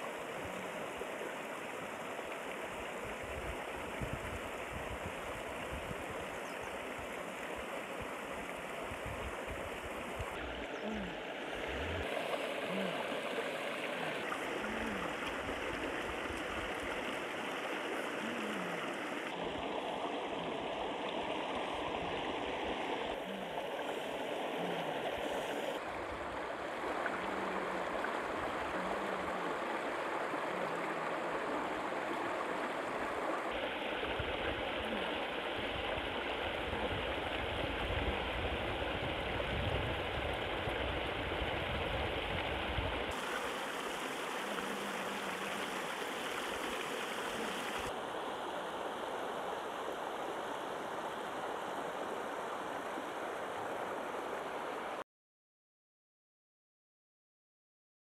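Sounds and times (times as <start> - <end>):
river water rushing over rocks: 0.0 - 40.7, 43.1 - 55.0.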